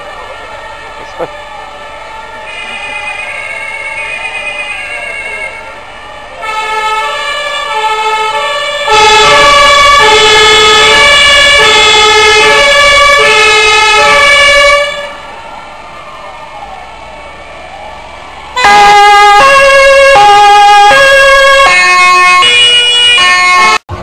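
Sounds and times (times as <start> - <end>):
two-tone fire sirens: 0.0 - 24.0.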